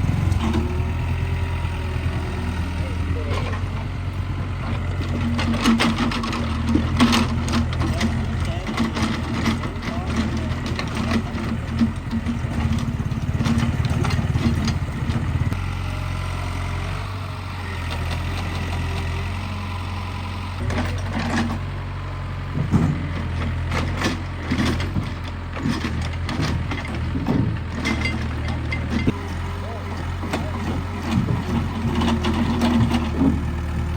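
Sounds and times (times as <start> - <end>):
excavator engine running: 0.0 - 33.9.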